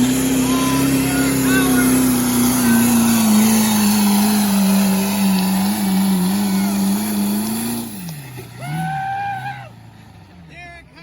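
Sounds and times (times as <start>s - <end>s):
diesel truck engine at full throttle: 0.0s - 11.0s.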